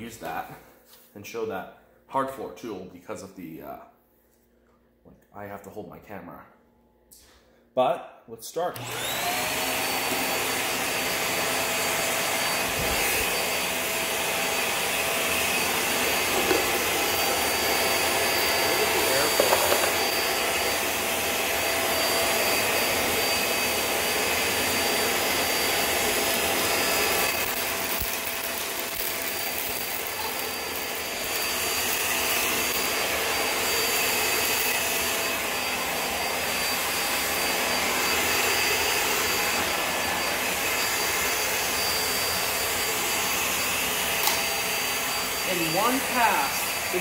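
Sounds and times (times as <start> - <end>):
vacuum cleaner on tile floor: 8.7 - 47.0.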